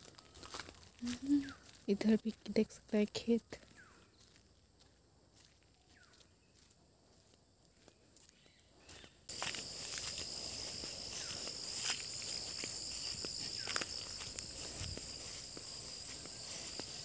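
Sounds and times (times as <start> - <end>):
footsteps in dry grass: 0.0 - 17.0
insects chorus: 0.0 - 17.0.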